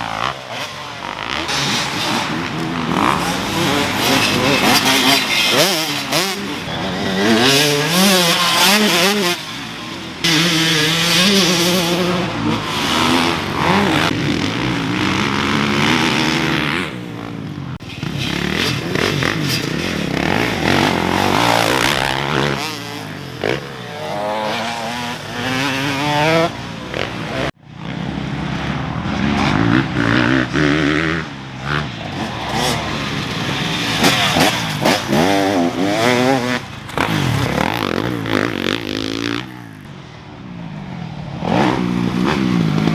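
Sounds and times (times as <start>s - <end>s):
dirt bike engine revving: 0.0s - 40.0s, 41.0s - 42.9s.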